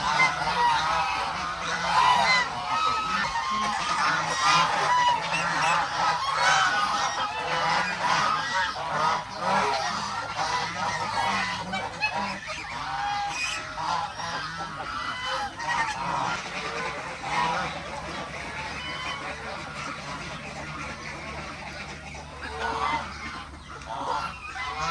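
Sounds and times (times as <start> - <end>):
farm fowl calling: 0.0 - 24.9
geese honking: 0.0 - 24.9.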